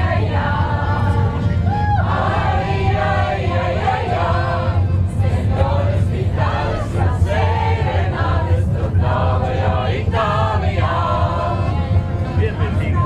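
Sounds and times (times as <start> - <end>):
group singing in chorus: 0.0 - 13.0
steady low rumble: 0.0 - 13.0.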